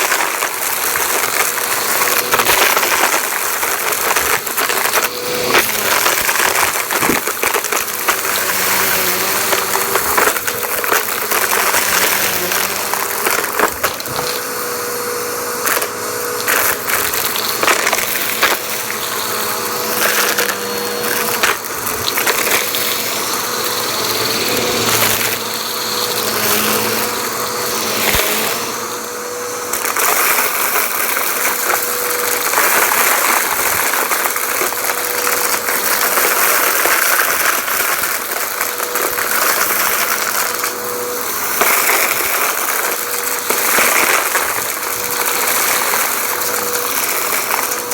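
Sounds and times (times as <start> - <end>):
debris crackling in vacuum: 0.0 - 47.9
vacuum cleaner whining: 0.0 - 47.9.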